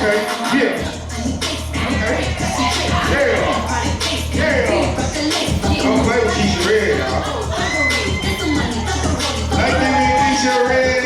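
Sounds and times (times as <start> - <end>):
hip hop music over loudspeakers: 0.0 - 11.0.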